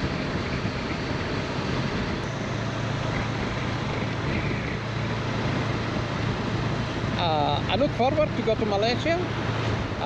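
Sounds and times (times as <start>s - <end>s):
motorcycle engine drone: 0.0s - 10.0s
wind rushing over microphone: 0.0s - 10.0s.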